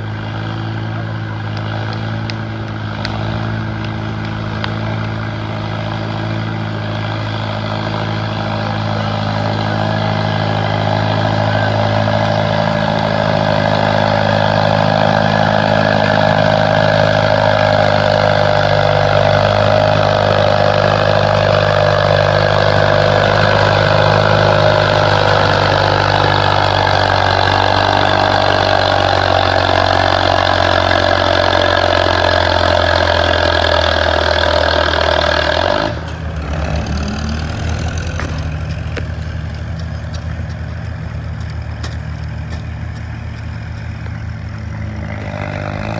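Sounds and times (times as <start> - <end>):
tractor engine running at high revs: 0.0 - 45.9.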